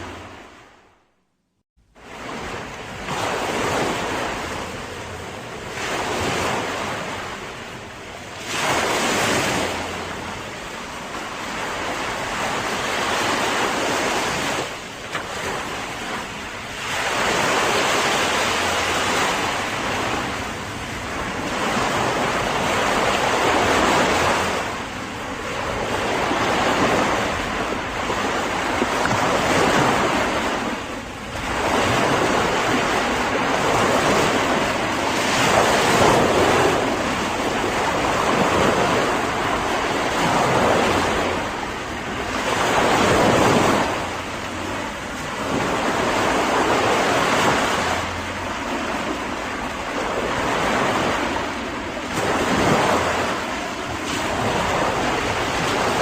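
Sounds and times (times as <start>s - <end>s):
ocean waves breaking: 0.0s - 1.1s, 1.8s - 56.0s.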